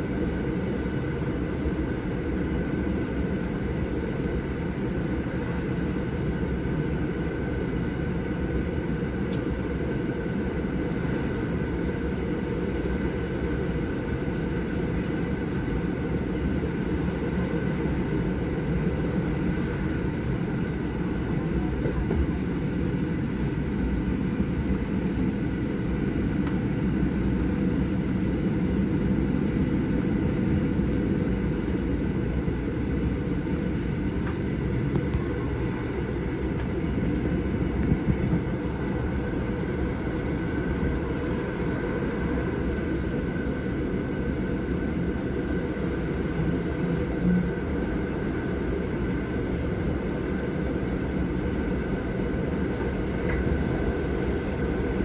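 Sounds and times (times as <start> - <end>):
faint steady whine: 0.0 - 55.0
train rumble inside carriage: 0.0 - 55.0.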